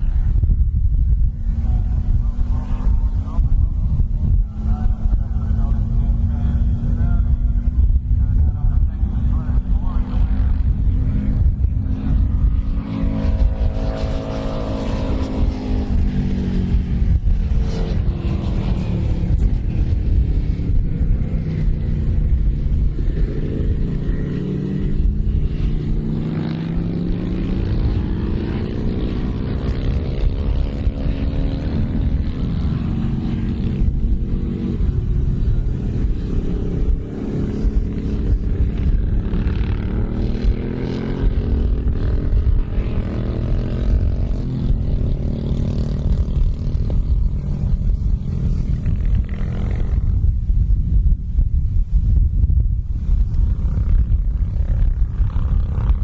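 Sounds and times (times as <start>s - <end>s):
racing motorcycle engine revving: 0.0s - 56.0s.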